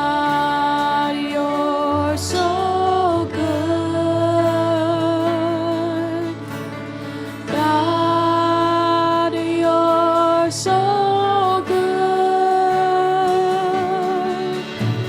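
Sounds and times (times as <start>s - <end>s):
slow church worship music: 0.0s - 15.0s.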